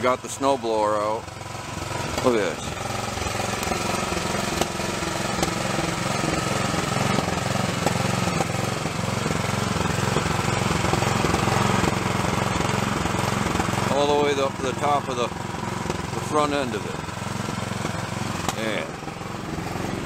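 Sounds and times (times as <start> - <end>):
snowblower engine chugging: 0.0 - 20.0.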